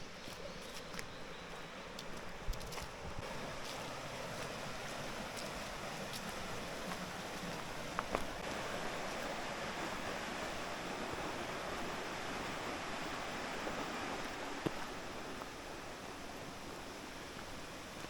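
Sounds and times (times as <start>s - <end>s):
stream rushing over rocks: 2.0s - 18.0s.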